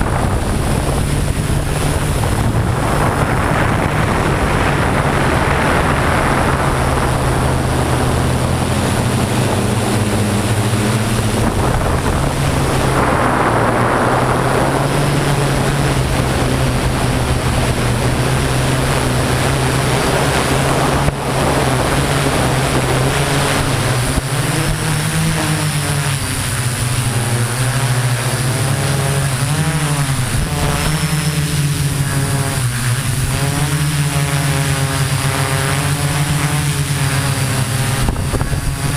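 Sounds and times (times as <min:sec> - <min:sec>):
drone motors buzzing: 0:00.0 - 0:38.9.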